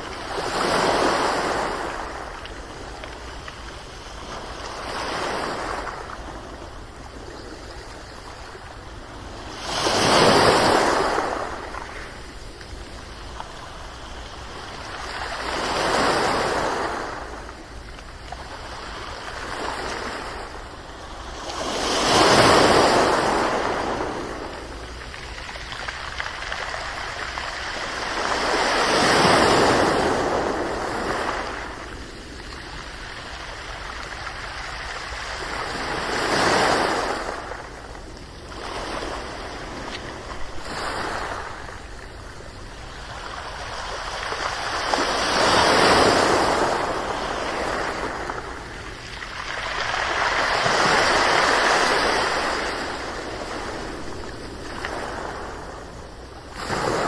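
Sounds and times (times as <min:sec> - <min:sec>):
ocean waves rolling in: 0:00.0 - 0:57.0.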